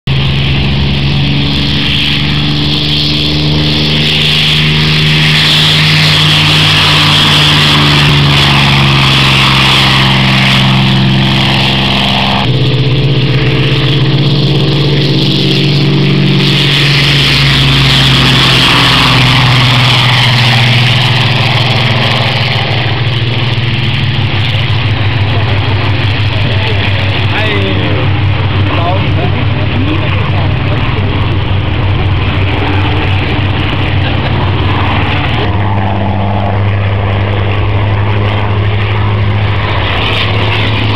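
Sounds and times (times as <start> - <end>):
piston aircraft engine running: 0.0 - 40.9.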